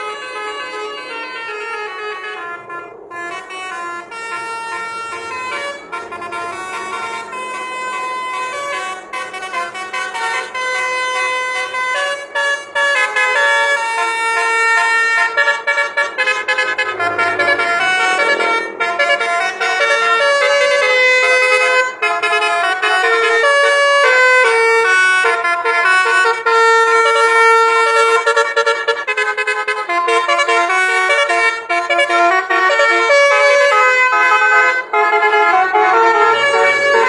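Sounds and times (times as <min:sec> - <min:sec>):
musical bus horns playing a tune: 0:00.0 - 0:37.0.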